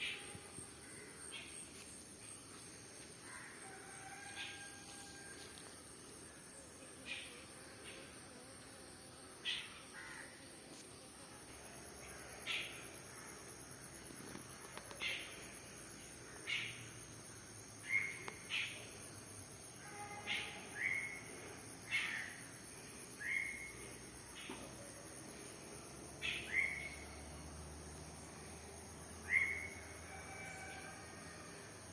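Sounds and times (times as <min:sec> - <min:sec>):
insect drone: 0:00.0 - 0:31.9.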